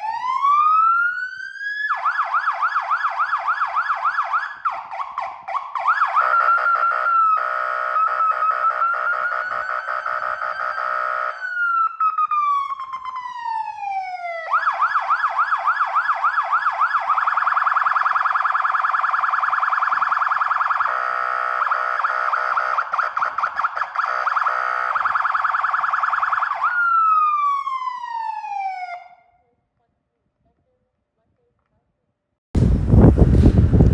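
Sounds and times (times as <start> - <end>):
fire engine siren: 0.0 - 29.4.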